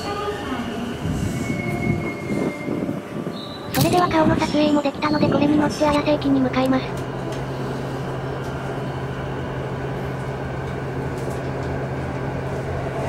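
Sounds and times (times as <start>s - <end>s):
train interior hum: 0.0s - 13.0s.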